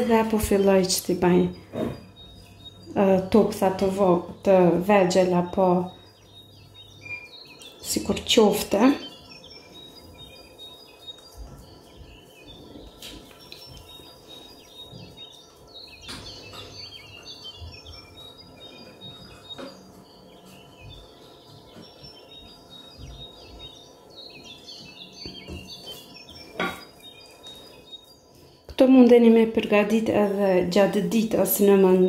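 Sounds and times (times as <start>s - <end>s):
faint bird chirping: 0.0s - 32.0s
low steady hum: 0.0s - 32.0s.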